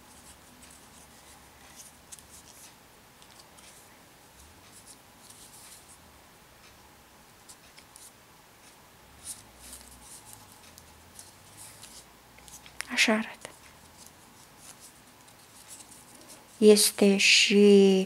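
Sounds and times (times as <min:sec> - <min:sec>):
paper tubes rustling and scraping: 0:00.0 - 0:06.0, 0:07.4 - 0:16.7.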